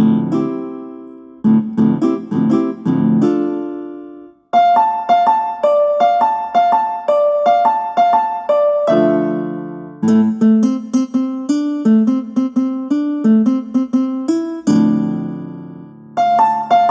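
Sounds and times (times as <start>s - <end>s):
low piano chords ringing: 0.0s - 16.9s.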